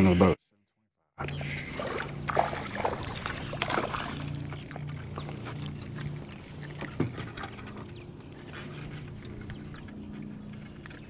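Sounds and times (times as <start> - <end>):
electric trolling motor humming: 1.4 - 11.0.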